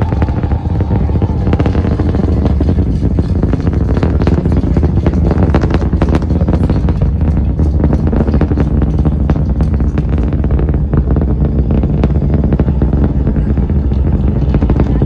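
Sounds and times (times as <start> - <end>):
rocket engines rumbling and crackling: 0.0 - 15.0.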